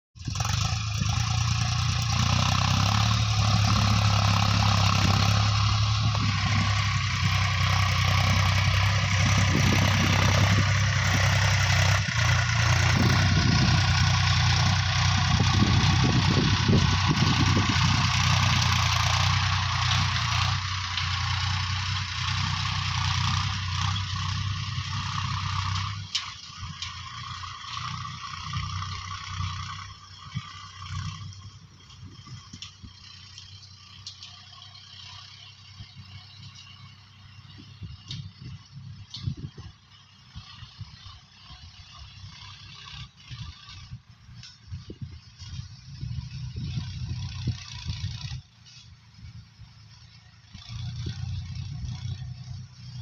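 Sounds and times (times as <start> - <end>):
tractor diesel engine running: 0.2 - 53.0.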